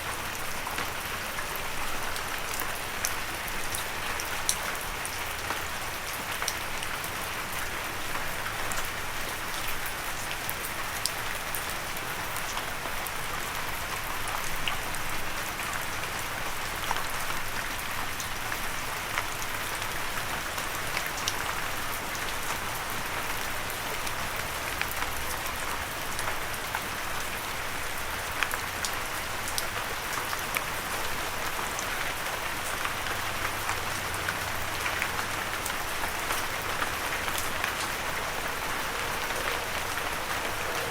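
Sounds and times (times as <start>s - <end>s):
light rain falling: 0.0s - 40.9s
raindrops ticking on a surface: 0.0s - 40.9s.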